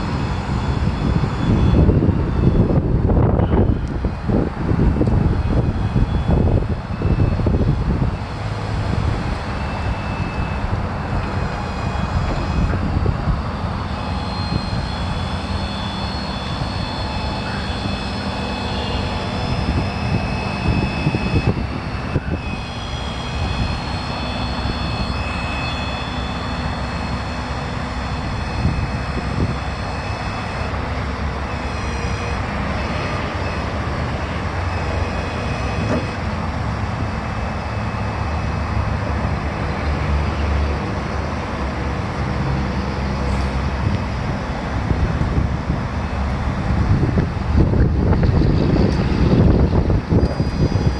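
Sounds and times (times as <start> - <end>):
diesel engine rumbling: 0.0 - 50.9
high-pitched turbo whine: 0.0 - 50.9.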